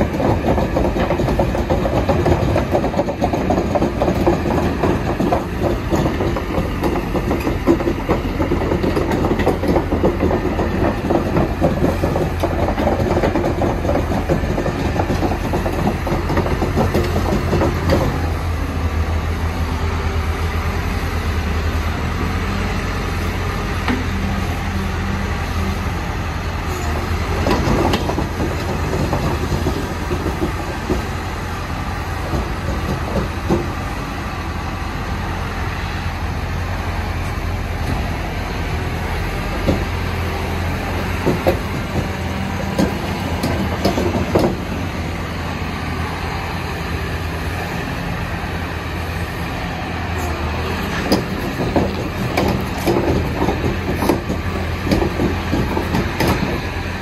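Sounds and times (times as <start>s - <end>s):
steel tracks clanking on ramps: 0.0s - 19.0s, 20.8s - 57.0s
excavator diesel engine running: 0.0s - 57.0s.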